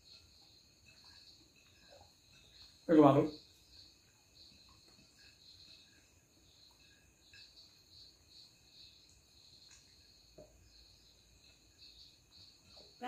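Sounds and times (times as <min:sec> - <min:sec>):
faint high-pitched pulsing chirp: 0:00.0 - 0:13.0.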